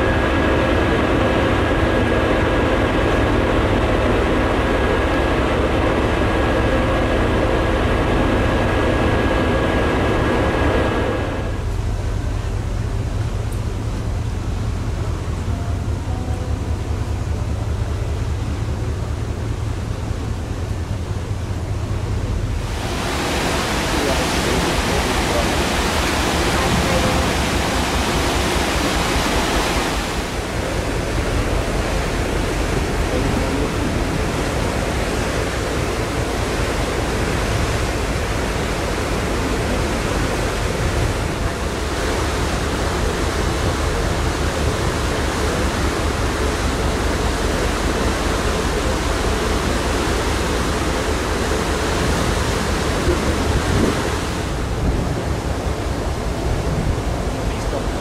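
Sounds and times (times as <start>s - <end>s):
low rumble: 0.0s - 58.0s
wind and sea water rushing: 0.0s - 58.0s.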